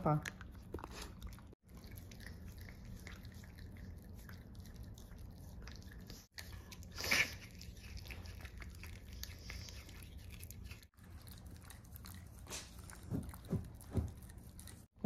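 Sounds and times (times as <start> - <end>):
toothbrush scrubbing teeth: 0.0 - 15.0.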